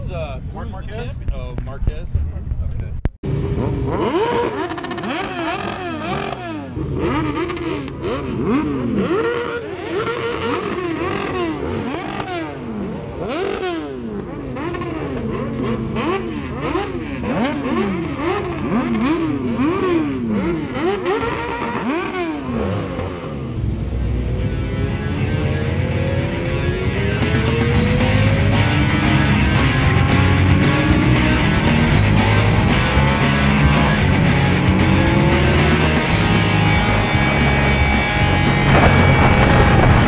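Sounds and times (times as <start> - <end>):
motorcycle engines revving: 3.2 - 40.0.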